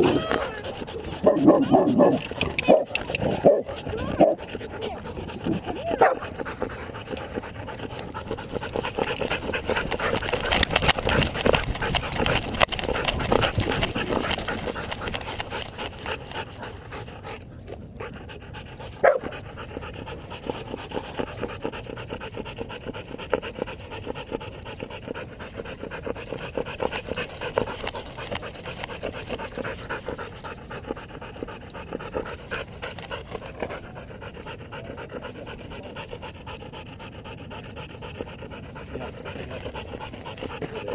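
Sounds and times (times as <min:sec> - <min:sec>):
dog panting: 0:00.0 - 0:40.9.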